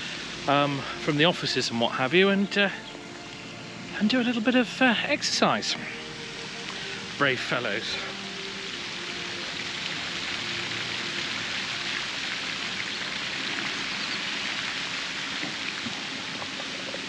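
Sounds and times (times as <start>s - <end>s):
falling splashing water: 0.0s - 17.0s.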